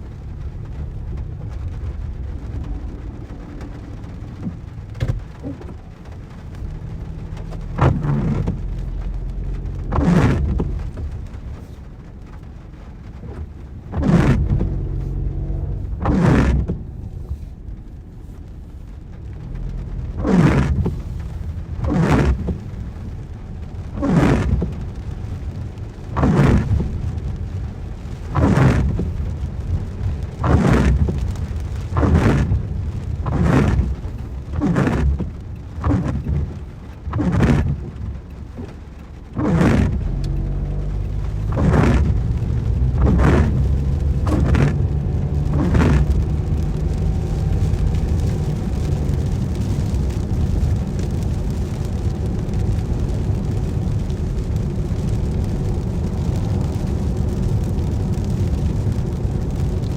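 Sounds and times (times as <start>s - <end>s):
rain on car: 0.0s - 59.9s
road and engine rumble: 0.0s - 59.9s
windscreen wipers swishing: 0.0s - 59.9s.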